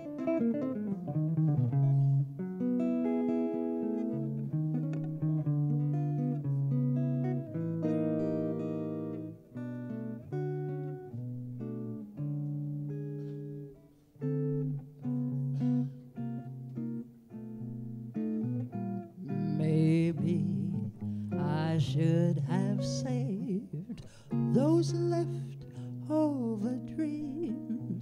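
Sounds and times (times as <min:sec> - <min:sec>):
electric jazz guitar: 0:00.0 - 0:28.0.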